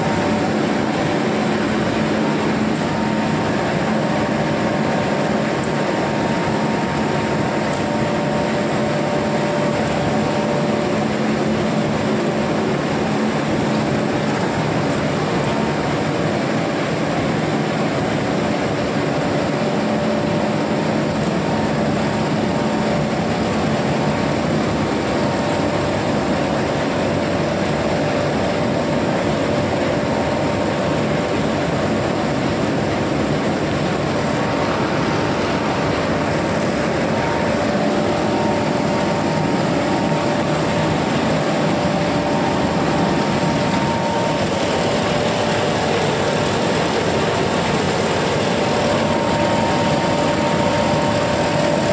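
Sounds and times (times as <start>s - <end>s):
factory machinery droning: 0.0s - 51.9s.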